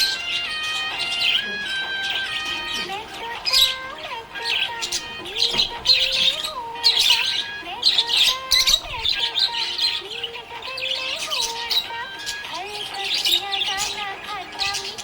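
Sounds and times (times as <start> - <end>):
budgies chirping and warbling: 0.0 - 15.0.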